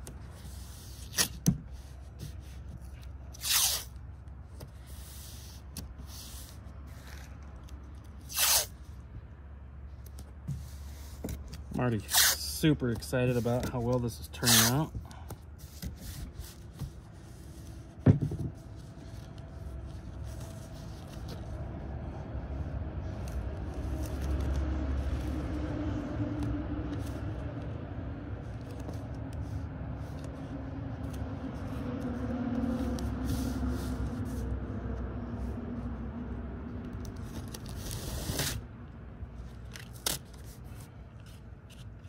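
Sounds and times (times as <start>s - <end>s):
low steady rumble: 0.0s - 42.0s.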